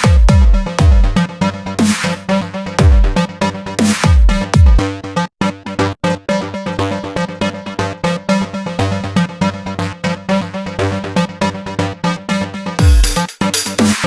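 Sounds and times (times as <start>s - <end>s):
electronic music with chopped synth chords: 0.0s - 14.0s.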